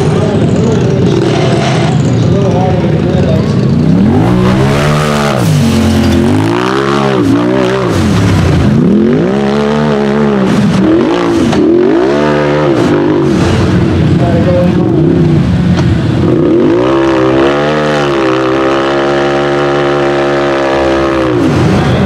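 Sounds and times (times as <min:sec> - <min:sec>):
engine revving hard: 0:03.6 - 0:15.4, 0:16.2 - 0:22.0.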